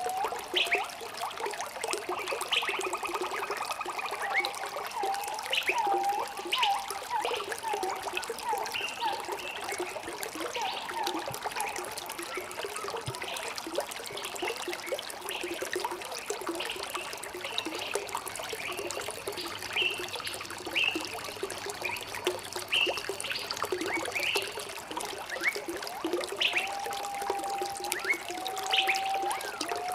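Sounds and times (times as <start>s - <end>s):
water trickling and burbling: 0.0s - 29.9s.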